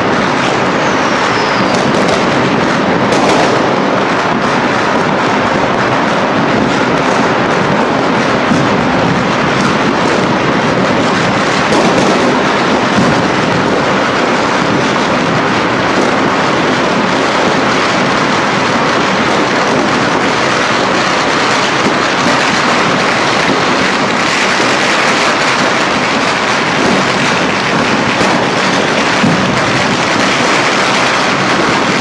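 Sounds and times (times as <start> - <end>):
firecrackers and fireworks banging: 0.0 - 32.0.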